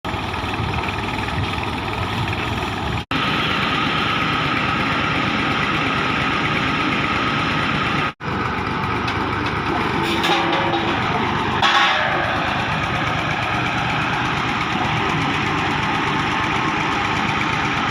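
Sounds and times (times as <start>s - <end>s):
boring rig engine running: 0.0s - 17.9s.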